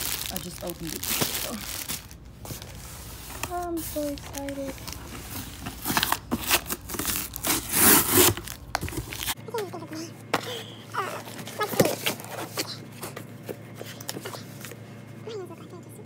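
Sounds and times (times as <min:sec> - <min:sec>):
packaging rustling and scraping: 0:00.0 - 0:09.4, 0:11.0 - 0:15.2.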